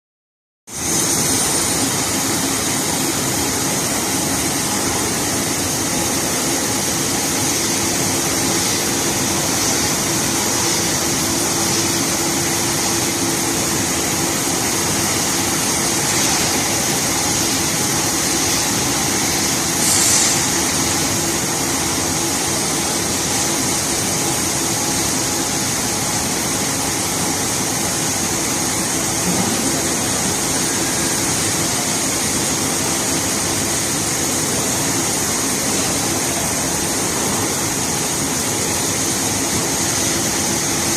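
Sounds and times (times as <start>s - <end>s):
washing machine humming with hiss: 0.7s - 40.9s.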